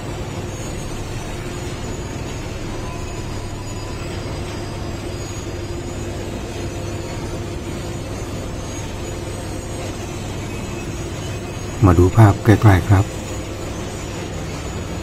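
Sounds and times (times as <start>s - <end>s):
faint steady tone: 0.0s - 15.0s
track-laying machine running: 0.0s - 15.0s.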